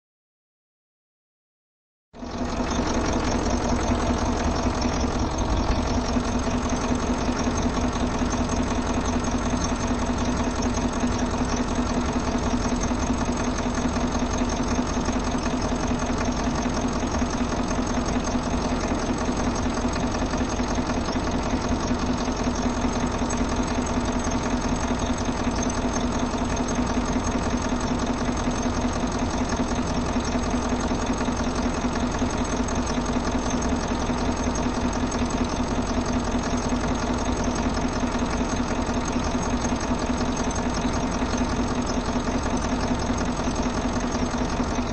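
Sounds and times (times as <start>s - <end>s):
diesel engine idling: 2.2s - 44.9s.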